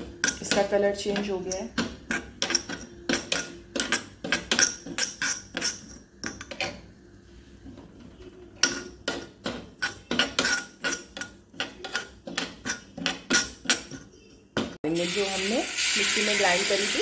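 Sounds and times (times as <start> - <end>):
spoon scraping a pan: 0.0 - 16.9.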